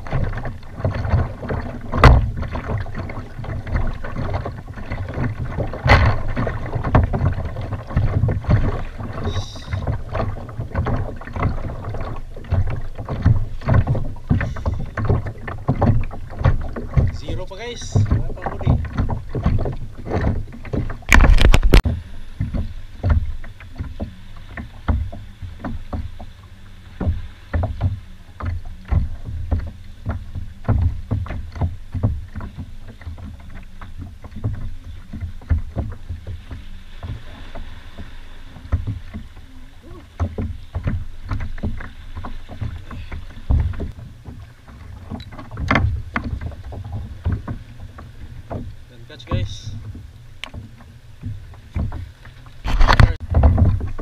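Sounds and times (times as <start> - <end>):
water lapping against kayak hull: 0.0 - 54.0.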